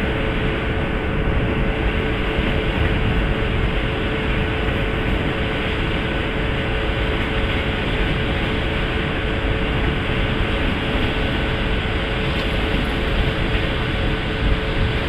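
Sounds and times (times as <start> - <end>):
constant hum: 0.0 - 15.0
railway yard rumble and hiss: 0.0 - 15.0.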